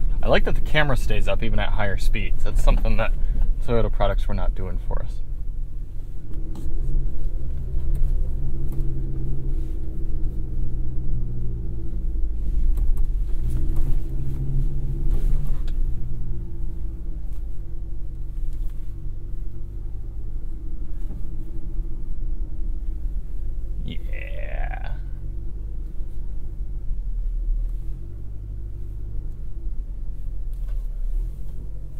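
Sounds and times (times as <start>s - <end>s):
engine running under throttle: 5.4s - 31.9s.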